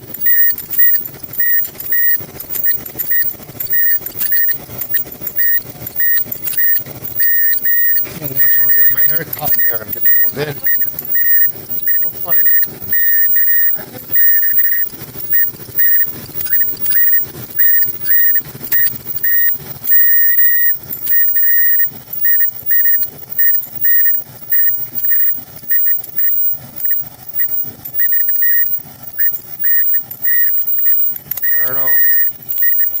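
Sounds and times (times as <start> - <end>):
high-pitched dryer squeal: 0.0 - 33.0.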